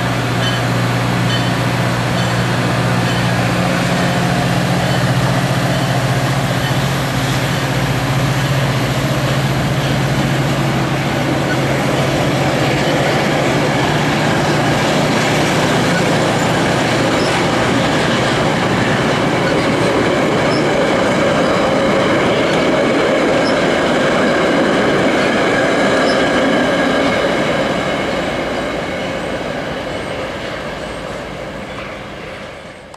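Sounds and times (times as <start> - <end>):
train wheels rushing on rails: 0.0 - 32.9.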